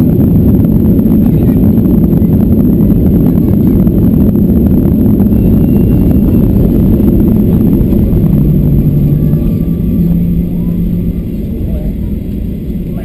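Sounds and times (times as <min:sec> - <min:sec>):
jet engines roaring: 0:00.0 - 0:13.0
steady low hum: 0:00.0 - 0:13.0
wheels rumbling on runway: 0:00.0 - 0:13.0.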